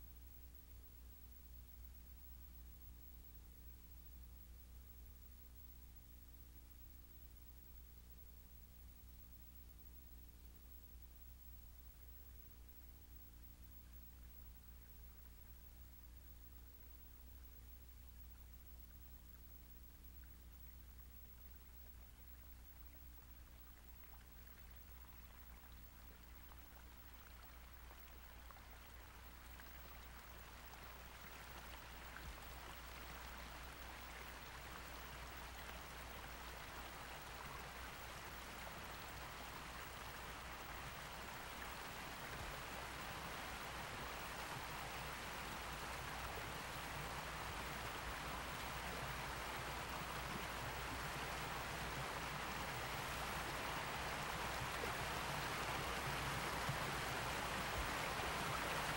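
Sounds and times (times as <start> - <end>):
faint low hum: 0.0 - 58.9.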